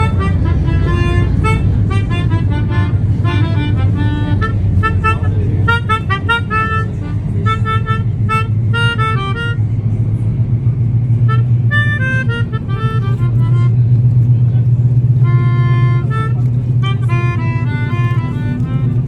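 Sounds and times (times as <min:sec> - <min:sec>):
subway train rumble: 0:00.0 - 0:19.0.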